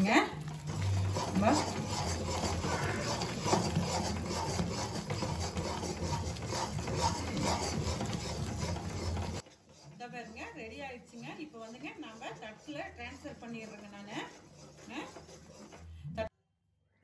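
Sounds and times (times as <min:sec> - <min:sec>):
spoon scraping a metal pan: 0:00.6 - 0:15.9.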